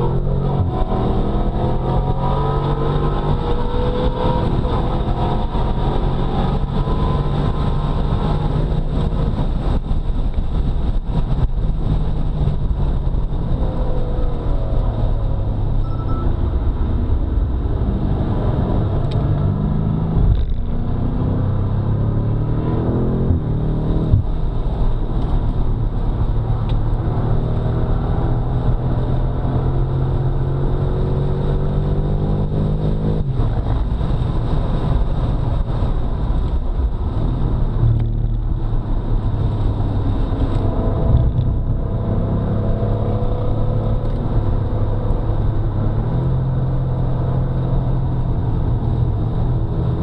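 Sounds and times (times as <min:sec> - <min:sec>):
car engine accelerating hard: 0:00.0 - 0:50.0.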